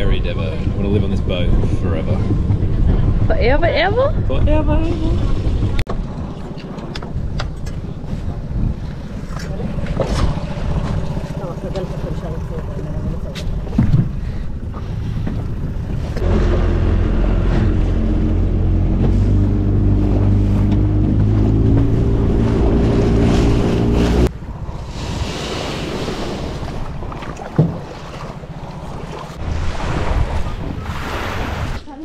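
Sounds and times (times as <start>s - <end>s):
outboard motor running: 0.0s - 31.0s
wind buffeting microphone: 0.0s - 31.9s
water noise: 0.0s - 32.0s.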